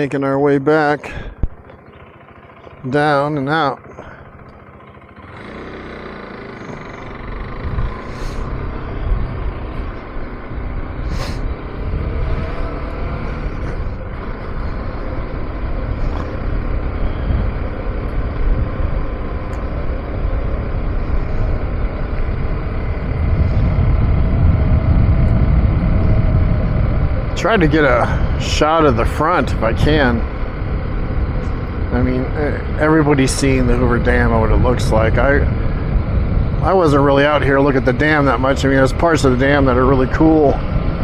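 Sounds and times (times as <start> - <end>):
road noise: 0.0 - 41.0
rumbling wind: 0.0 - 41.0
motorcycle engine pulling away: 0.8 - 41.0.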